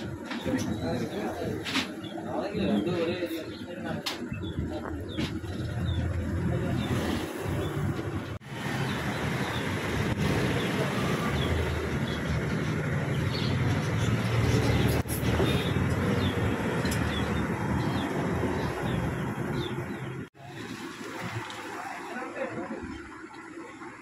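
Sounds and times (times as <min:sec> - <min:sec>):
small birds chirping: 0:00.1 - 0:07.9, 0:08.6 - 0:20.3.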